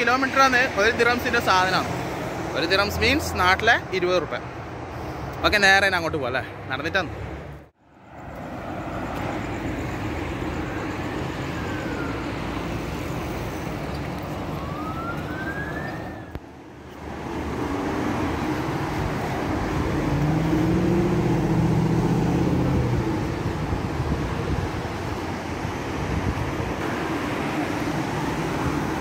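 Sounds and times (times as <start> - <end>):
cars passing: 0.0 - 29.0.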